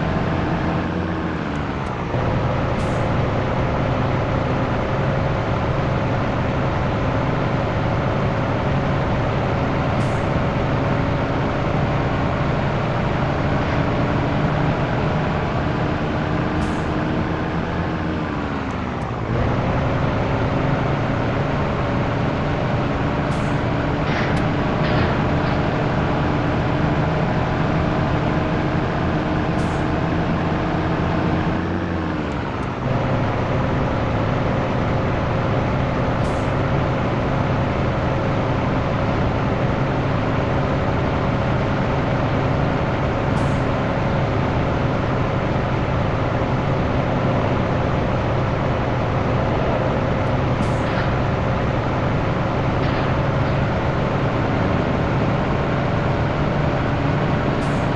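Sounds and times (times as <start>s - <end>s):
truck diesel engine under load: 0.0s - 57.9s.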